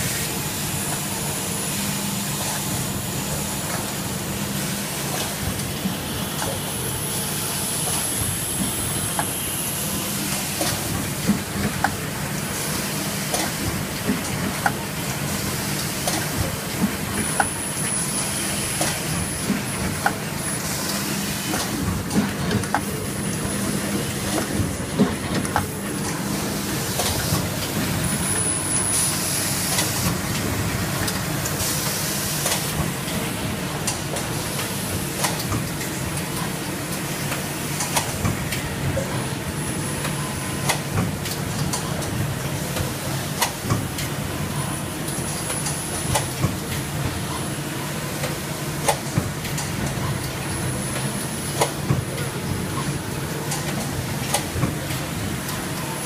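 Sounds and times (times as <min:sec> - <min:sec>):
machine humming and hissing: 0:00.0 - 0:56.0.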